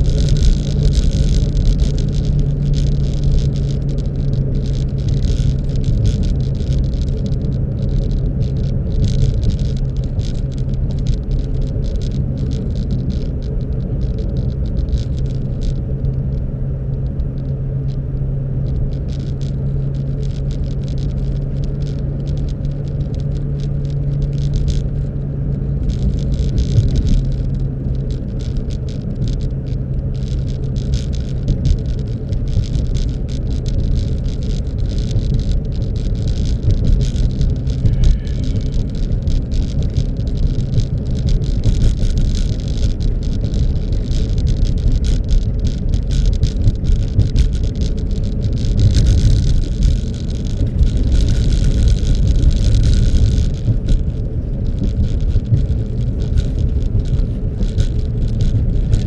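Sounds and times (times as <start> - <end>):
car engine and road rumble: 0.0 - 59.0
crackles and rattles: 0.0 - 59.0
hum: 0.0 - 59.0.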